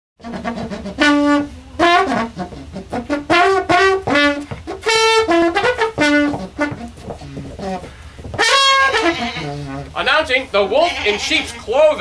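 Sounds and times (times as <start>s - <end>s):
garden hose played as a horn: 0.2s - 12.0s.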